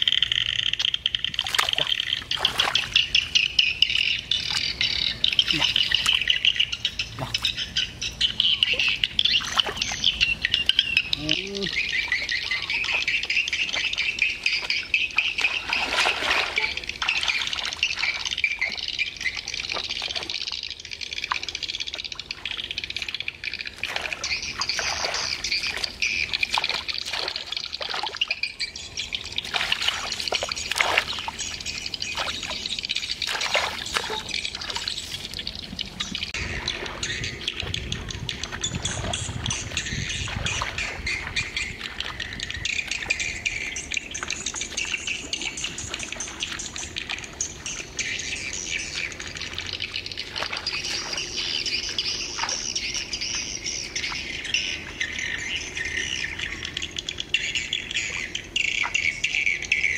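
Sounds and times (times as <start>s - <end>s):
splashing in shallow water: 0.8s - 7.7s, 8.4s - 56.8s.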